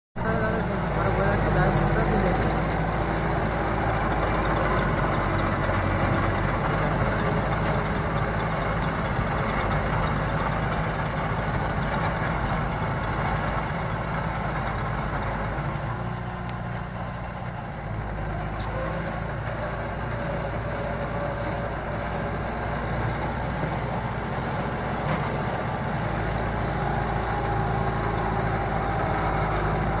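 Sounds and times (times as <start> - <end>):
tractor diesel engine running: 0.2 - 30.0.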